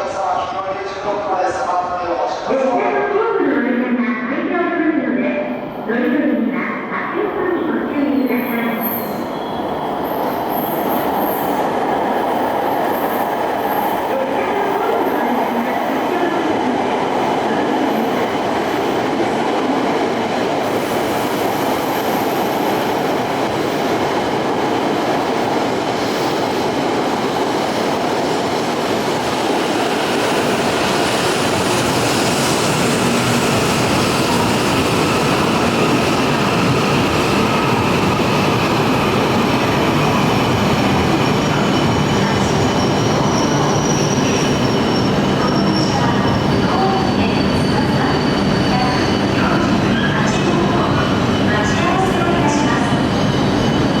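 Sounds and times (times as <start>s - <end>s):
train wheels on rail: 8.2s - 54.0s.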